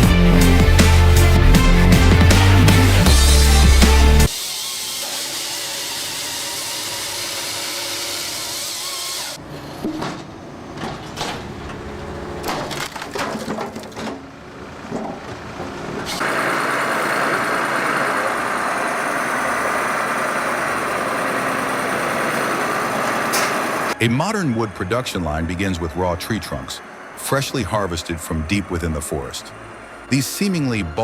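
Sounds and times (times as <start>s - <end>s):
wood-processing machinery noise: 0.0s - 31.0s.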